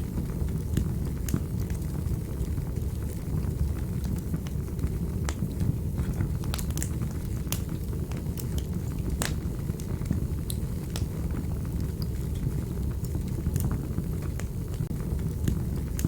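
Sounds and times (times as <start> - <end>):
wood fire crackling: 0.0 - 16.0
fire pops and snaps: 0.1 - 16.0.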